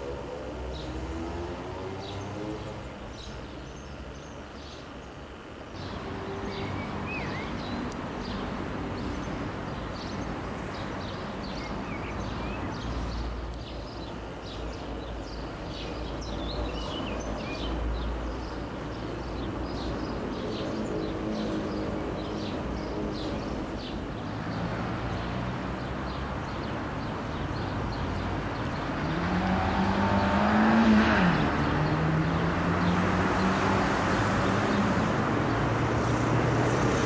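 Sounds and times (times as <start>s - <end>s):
small birds chirping: 0.0s - 36.2s.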